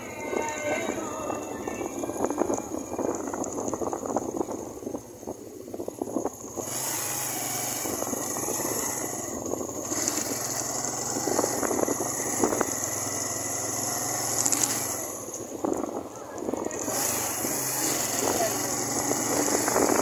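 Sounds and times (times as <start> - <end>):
motorcycle engine running: 0.0 - 20.0
wind noise on microphone: 0.0 - 20.0.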